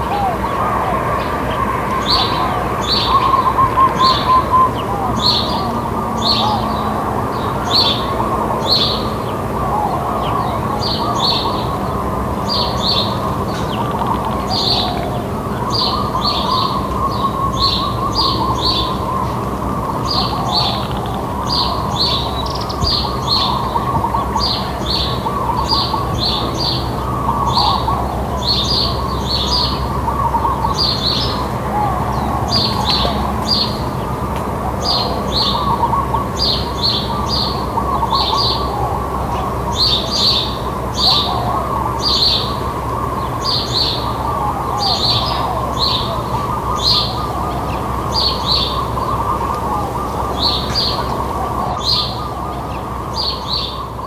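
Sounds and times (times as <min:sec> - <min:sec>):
birds calling softly: 0:00.0 - 0:54.0
doves cooing: 0:00.0 - 0:54.0
sparrows chirping: 0:00.0 - 0:54.0.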